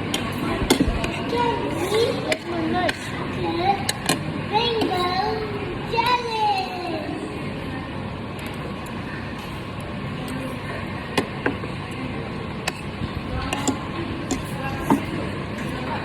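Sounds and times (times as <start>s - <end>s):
busy eating place hum: 0.0s - 16.0s
faint indistinct voices: 0.0s - 16.0s.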